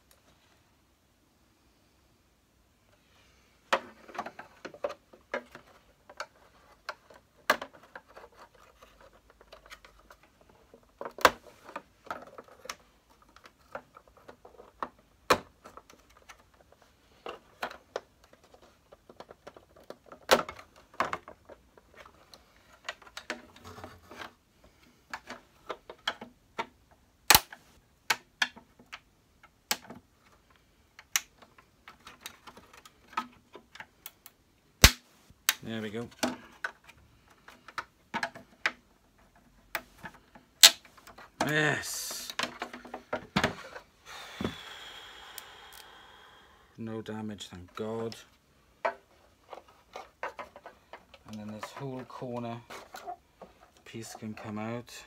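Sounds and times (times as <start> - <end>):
plastic parts clicking and rattling: 3.6 - 34.4, 35.4 - 43.9, 47.4 - 54.6.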